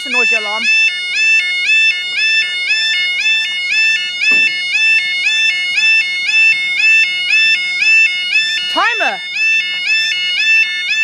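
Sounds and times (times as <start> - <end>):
level crossing warning alarm: 0.0 - 11.0.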